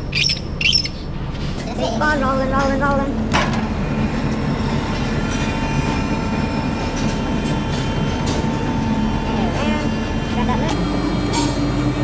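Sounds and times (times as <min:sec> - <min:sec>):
motor and gear hum: 0:00.0 - 0:12.0.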